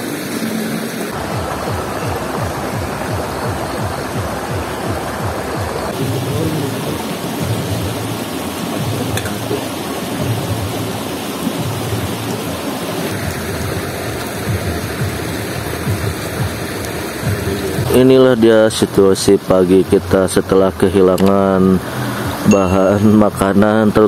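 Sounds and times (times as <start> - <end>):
river rushing over rocks: 0.0 - 19.6, 20.5 - 23.7.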